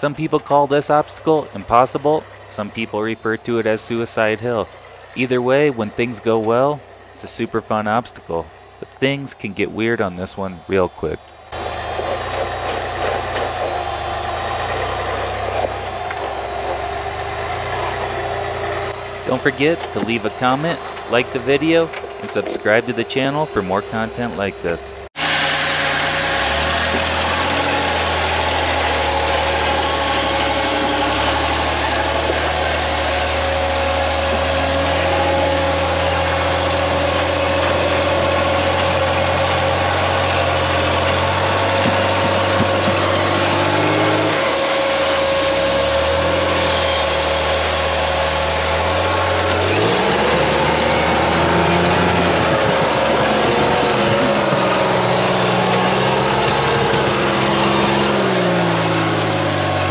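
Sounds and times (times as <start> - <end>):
buggy engine revving: 0.0 - 59.9.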